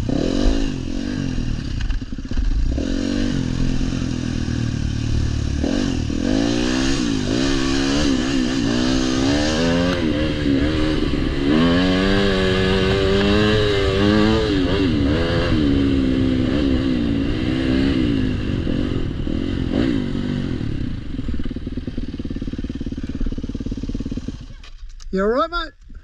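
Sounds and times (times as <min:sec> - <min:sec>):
dirt bike engine revving: 0:00.0 - 0:24.8.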